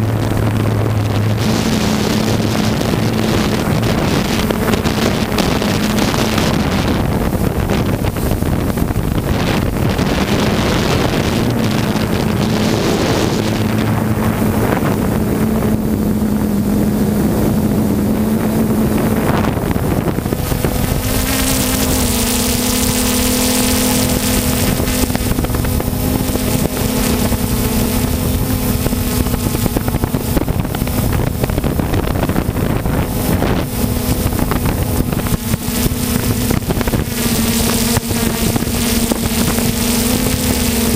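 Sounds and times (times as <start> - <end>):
drone propellers buzzing: 0.0 - 40.9
wind on microphone: 0.0 - 40.9.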